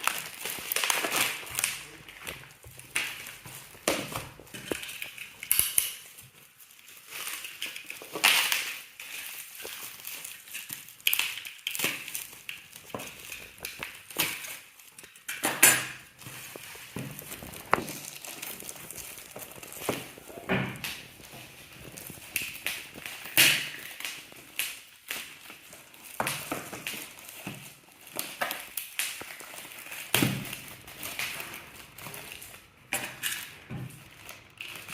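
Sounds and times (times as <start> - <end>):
packaging rustling: 0.0 - 34.9.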